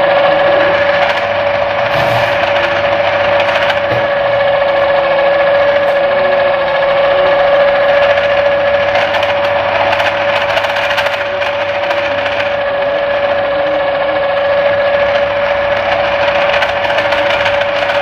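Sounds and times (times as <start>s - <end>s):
noodle machine motor hum: 0.0s - 18.0s.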